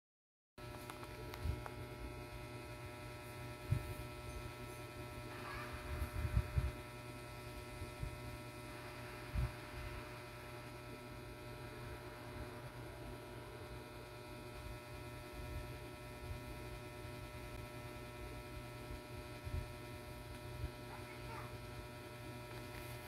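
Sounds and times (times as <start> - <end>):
steady multi-tone hum: 0.6 - 23.0.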